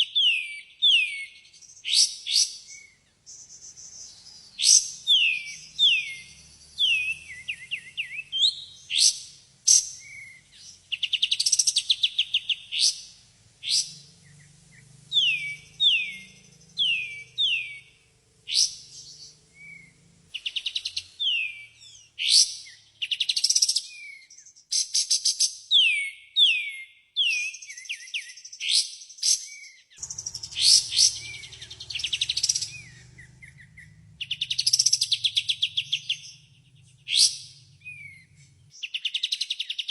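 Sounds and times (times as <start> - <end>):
songbird whistles and trills: 0.0 - 39.9.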